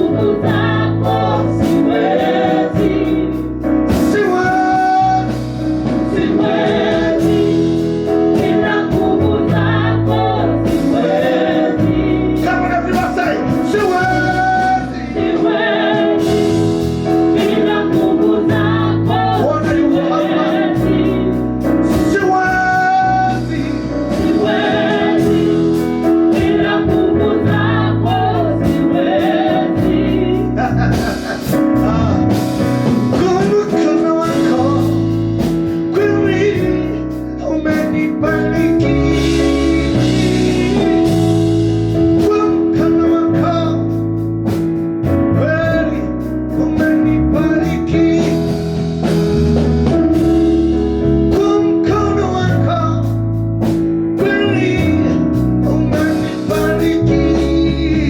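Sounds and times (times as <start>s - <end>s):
gospel singing over a band: 0.0s - 58.0s.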